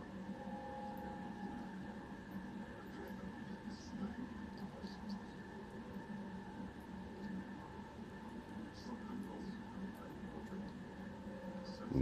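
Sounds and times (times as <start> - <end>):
faint constant tones: 0.0 - 12.0
low room hum: 0.0 - 12.0.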